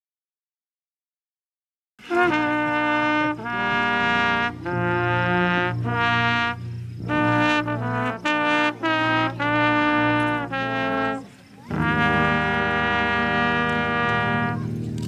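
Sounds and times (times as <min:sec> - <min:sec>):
trumpet and trombone chords: 0:02.0 - 0:15.0.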